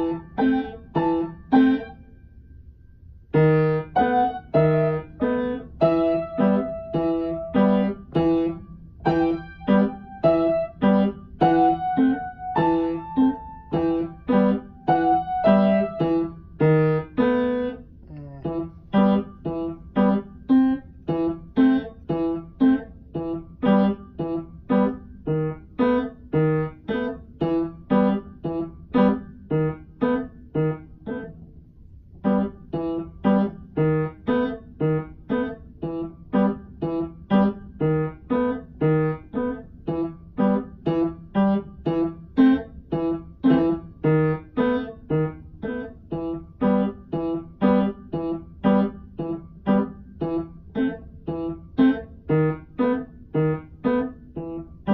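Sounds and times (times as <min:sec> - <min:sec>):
upright piano notes: 0:00.0 - 0:02.0, 0:03.3 - 0:17.8, 0:18.4 - 0:31.4, 0:32.2 - 0:54.9.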